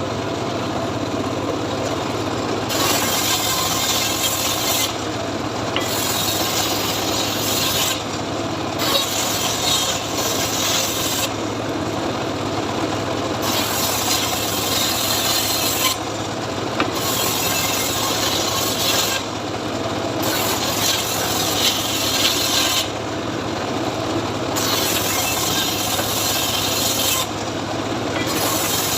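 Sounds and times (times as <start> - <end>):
engine hum: 0.0 - 28.9
saw rasping through wood: 2.6 - 11.6, 13.4 - 23.0, 24.2 - 28.9.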